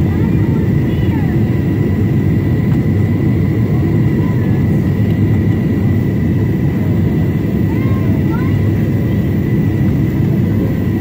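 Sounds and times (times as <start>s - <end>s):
jet engine and airflow rumble: 0.0s - 11.0s
thin steady whine: 0.0s - 11.0s.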